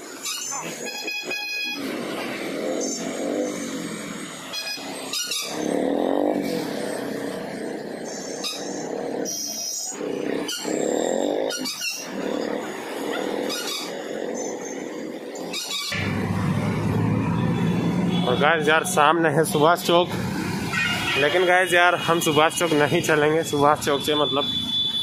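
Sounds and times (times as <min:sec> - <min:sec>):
motorbike engines running: 0:00.0 - 0:25.0.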